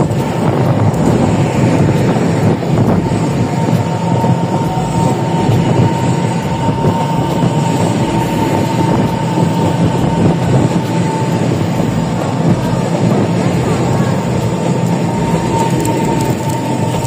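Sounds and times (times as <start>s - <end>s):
electric train high whine: 0.0s - 17.0s.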